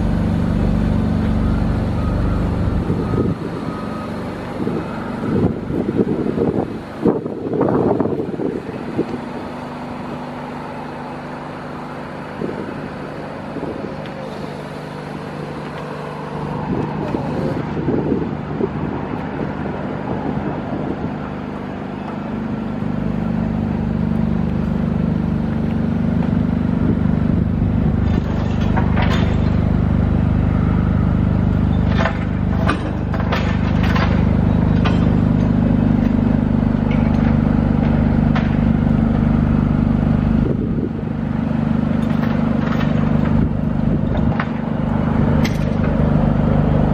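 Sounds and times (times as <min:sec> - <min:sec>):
generator engine running: 0:00.0 - 0:46.9.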